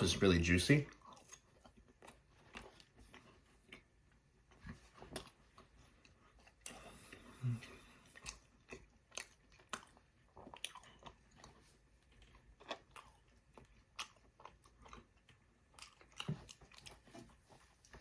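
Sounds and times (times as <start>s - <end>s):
person chewing crunchy food: 0.9s - 18.0s.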